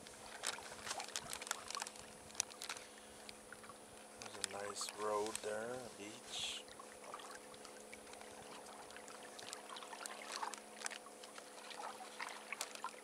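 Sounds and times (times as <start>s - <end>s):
faint steady hum: 0.0s - 13.0s
small waves slapping a hull: 0.0s - 13.0s.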